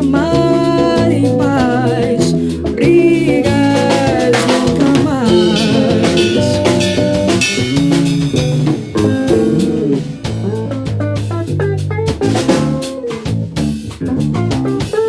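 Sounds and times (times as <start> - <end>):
bossa nova jazz band: 0.0 - 15.0.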